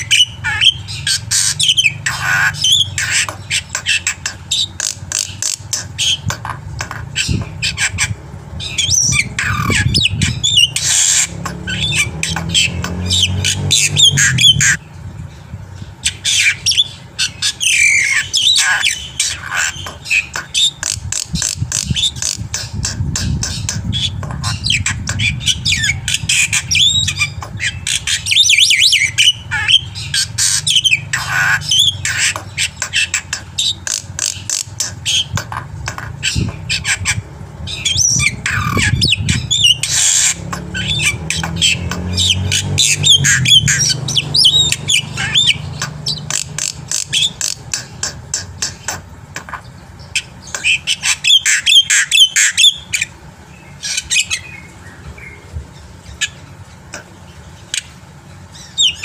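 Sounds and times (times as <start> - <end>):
bird singing harsh squawks: 0.0 - 15.0, 15.8 - 55.5, 56.1 - 59.0
steady low hum: 0.0 - 59.0.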